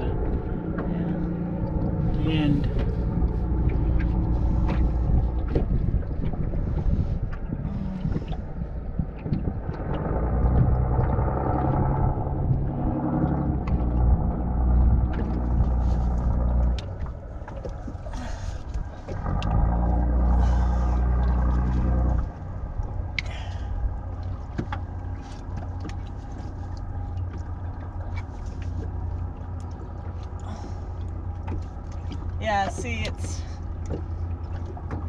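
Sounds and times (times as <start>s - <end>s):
low engine-like rumble: 0.0s - 35.0s.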